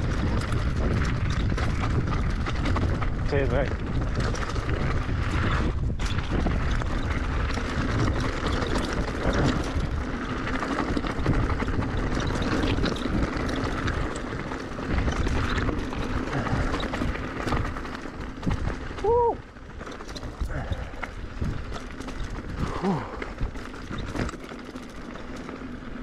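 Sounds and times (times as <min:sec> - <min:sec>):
wind buffeting microphone: 0:00.0 - 0:24.4
bike rattling: 0:00.0 - 0:26.0
tyres crunching on stones: 0:00.0 - 0:26.0.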